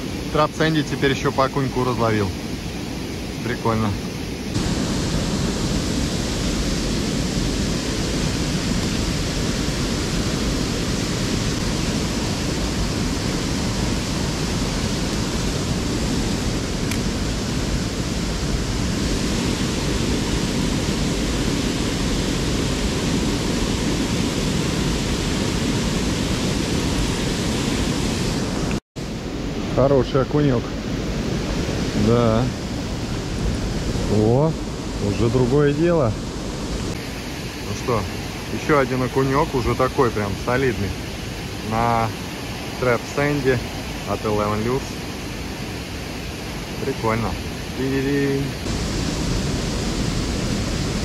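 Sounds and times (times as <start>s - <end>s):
water rushing through outflow: 0.0s - 51.0s.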